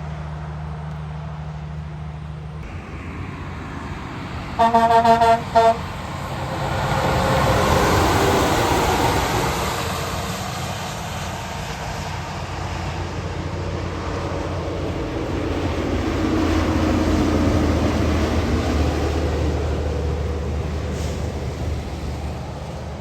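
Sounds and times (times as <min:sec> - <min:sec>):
diesel engine drone: 0:00.0 - 0:23.0
tyres hissing on wet road: 0:02.6 - 0:23.0.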